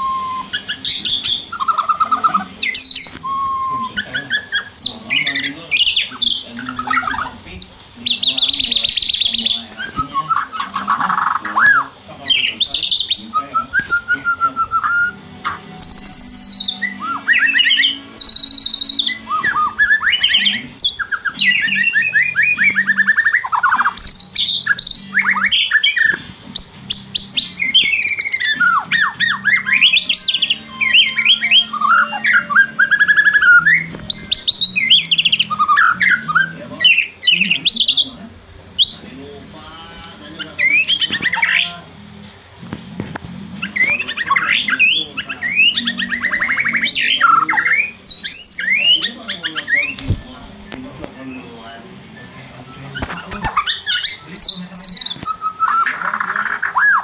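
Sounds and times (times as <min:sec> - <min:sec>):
songbird whistling and trilling: 0:00.0 - 0:38.2, 0:38.8 - 0:39.1, 0:40.3 - 0:41.8, 0:43.6 - 0:50.3, 0:51.2 - 0:57.0.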